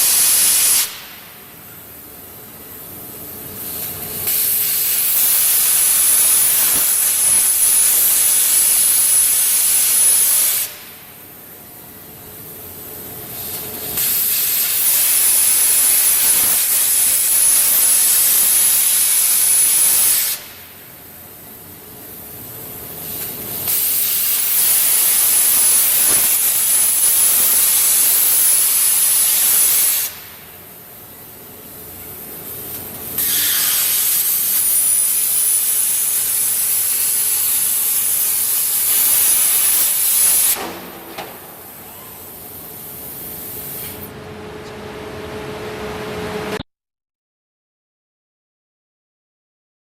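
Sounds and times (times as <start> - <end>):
plasma torch cutting hiss: 0.0 - 44.2.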